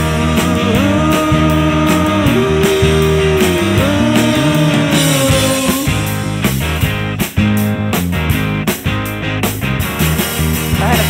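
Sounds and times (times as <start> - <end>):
rock music with sliding held notes: 0.0 - 11.0.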